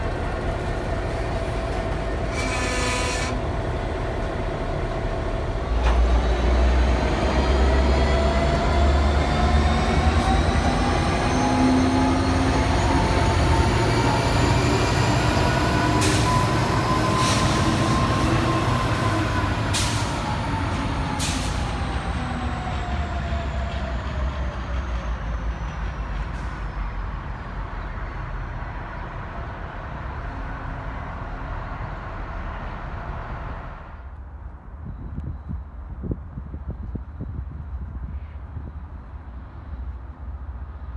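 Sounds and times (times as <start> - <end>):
locomotive engines rumbling past: 0.0 - 35.1.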